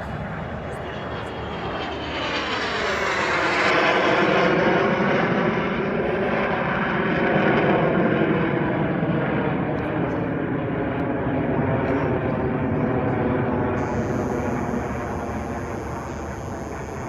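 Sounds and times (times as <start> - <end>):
airplane flying overhead: 0.0 - 17.0.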